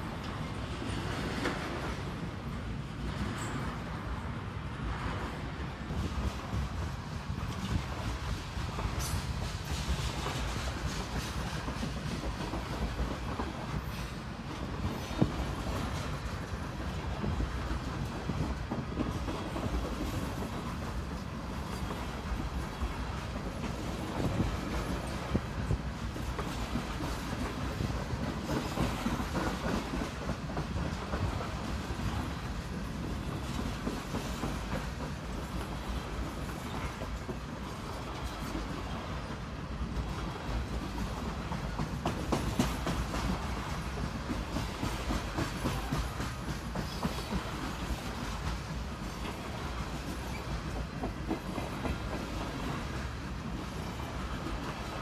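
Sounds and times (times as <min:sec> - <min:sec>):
train wheels rumbling on rail: 0:00.0 - 0:55.0
wheels clicking over rail joints: 0:05.9 - 0:55.0.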